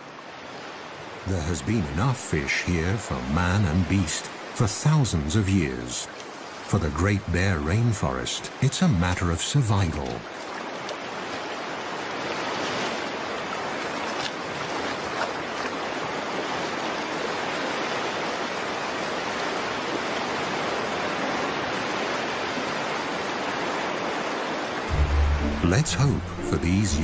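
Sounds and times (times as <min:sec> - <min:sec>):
stream flowing over rocks: 0:00.0 - 0:27.0.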